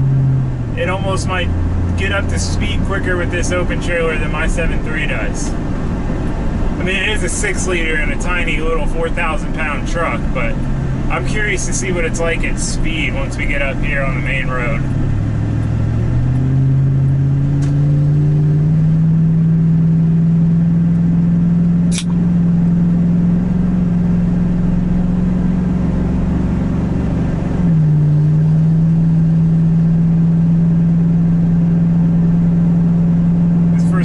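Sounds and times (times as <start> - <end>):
truck engine pulling under throttle: 0.0 - 34.0.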